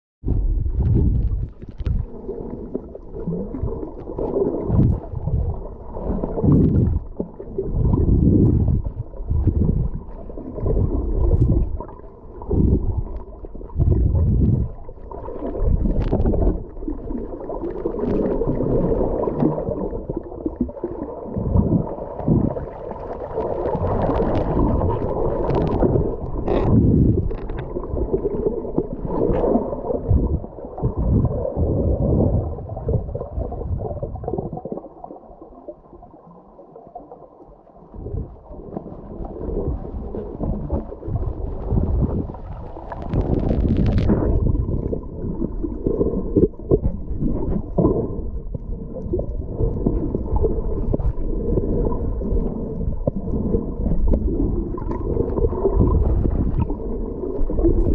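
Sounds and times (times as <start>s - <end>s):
water gurgling over microphone: 0.2s - 57.9s.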